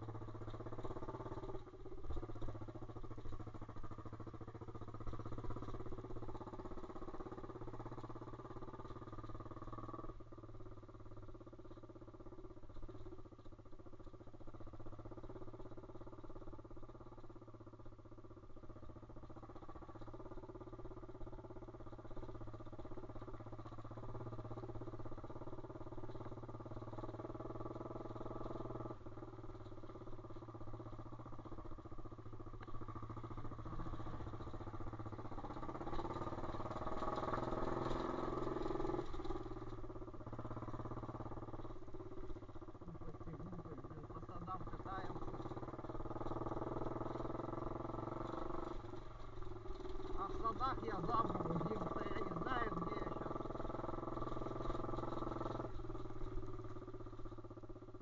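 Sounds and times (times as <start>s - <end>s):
small motorbike engine running: 0.0s - 58.0s.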